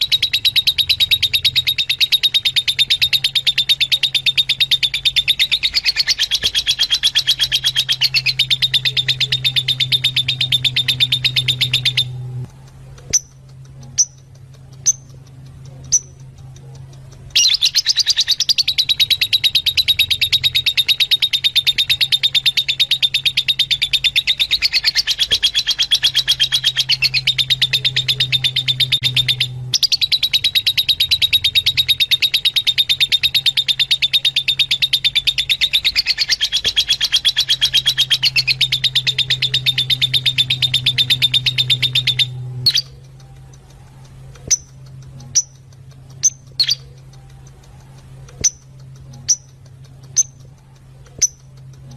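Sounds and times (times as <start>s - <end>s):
lovebirds chattering: 0.0s - 51.9s
low hum: 0.0s - 51.9s.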